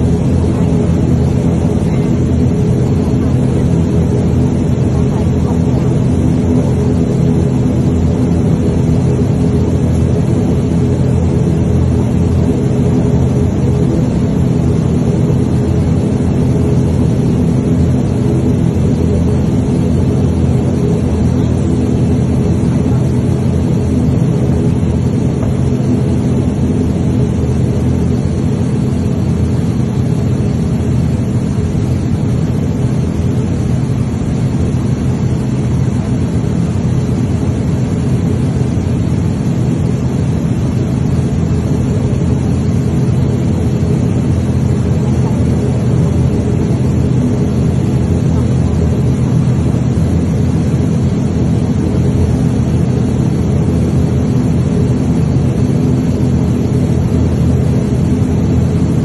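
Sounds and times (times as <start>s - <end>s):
propeller engine droning: 0.0s - 59.0s.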